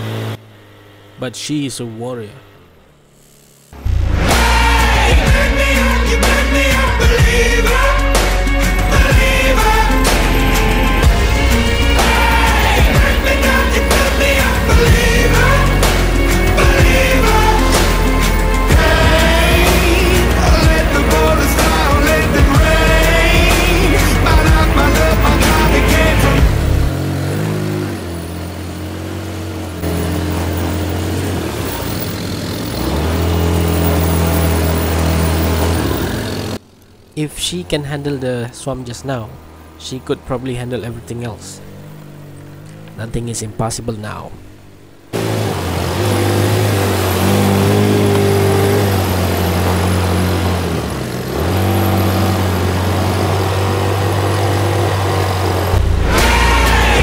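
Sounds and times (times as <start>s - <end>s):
atv engine droning: 0.0s - 57.0s.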